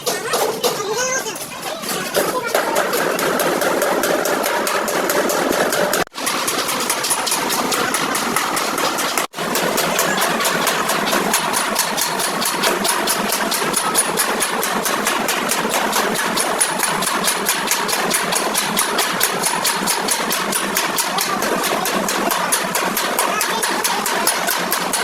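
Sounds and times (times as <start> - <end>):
engine running with fast pulse: 0.0 - 25.0.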